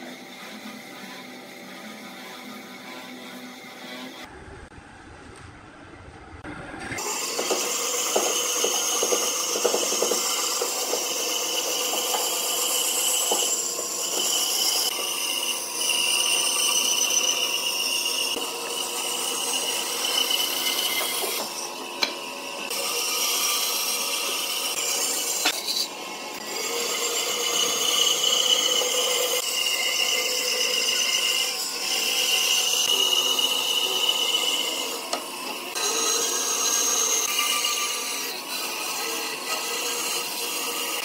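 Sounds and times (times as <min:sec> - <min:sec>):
band saw cutting wood: 0:00.0 - 0:04.3, 0:06.8 - 0:41.0.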